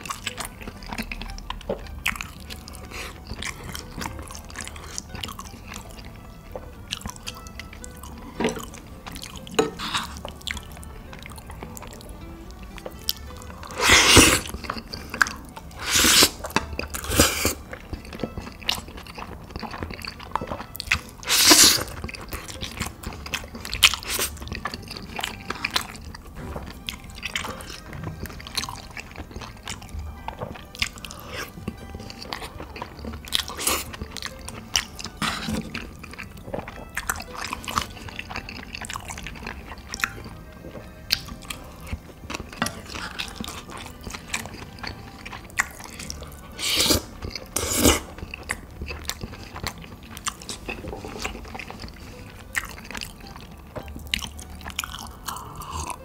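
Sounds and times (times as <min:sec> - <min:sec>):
person chewing and biting: 0:00.0 - 0:56.0.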